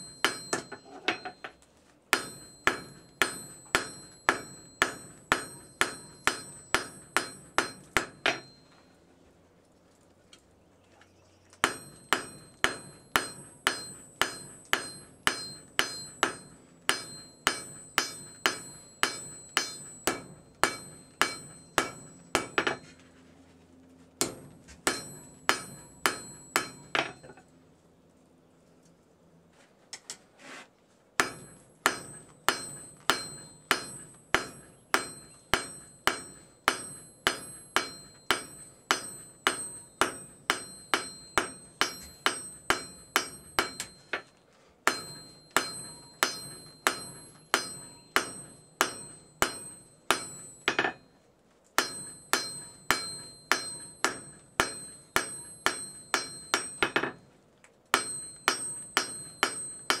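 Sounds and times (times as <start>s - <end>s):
hammer ringing on anvil: 0.0s - 9.0s, 11.6s - 23.1s, 24.2s - 27.5s, 31.2s - 51.2s, 51.8s - 57.3s, 57.9s - 60.0s.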